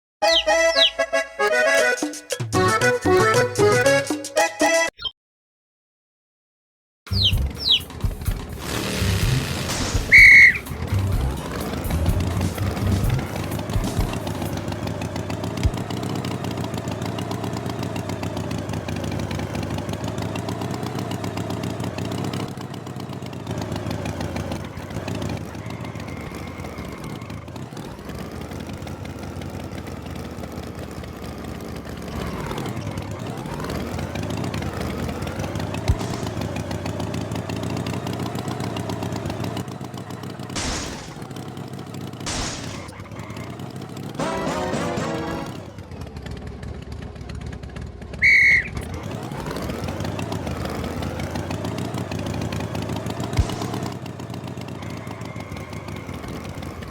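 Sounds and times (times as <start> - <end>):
tractor engine running: 0.2 - 4.5, 7.1 - 56.9.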